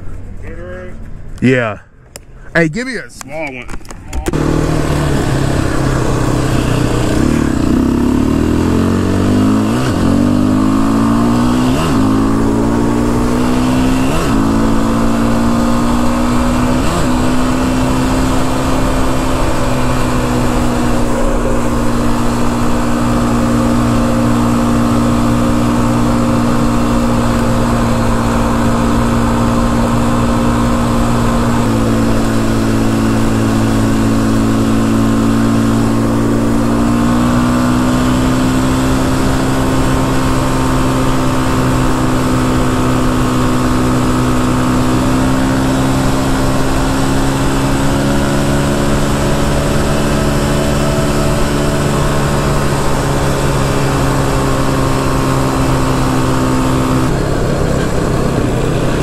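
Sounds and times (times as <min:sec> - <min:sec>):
quad bike engine accelerating: 0:04.2 - 0:59.0.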